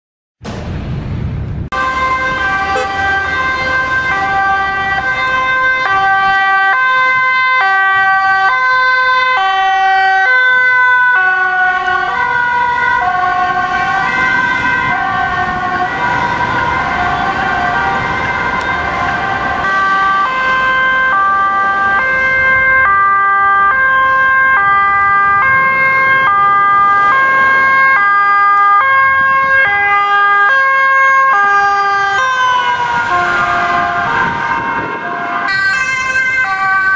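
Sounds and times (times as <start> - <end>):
ambulance two-tone siren: 1.7 - 36.9.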